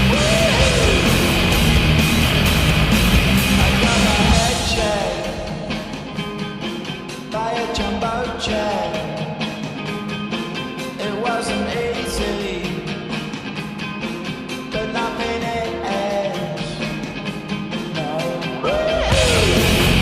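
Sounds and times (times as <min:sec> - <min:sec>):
rock song with singing: 0:00.0 - 0:20.0.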